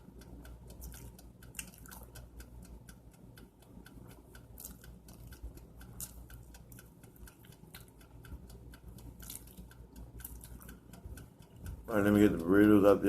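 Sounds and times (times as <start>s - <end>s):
low steady hum: 0.0s - 13.0s
steady ticking: 0.0s - 13.0s.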